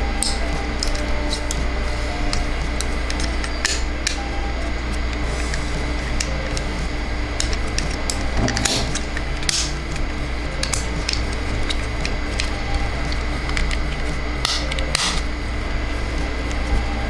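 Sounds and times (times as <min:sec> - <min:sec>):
plastic toy parts clicking: 0:00.0 - 0:15.4
steady low hum: 0:00.0 - 0:17.0.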